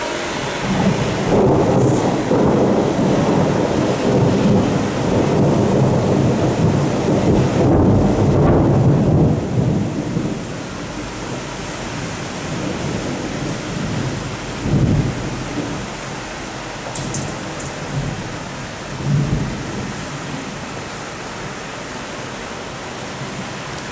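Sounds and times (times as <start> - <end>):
heavy rain: 0.0 - 23.9
thunder rumbling: 0.0 - 23.9.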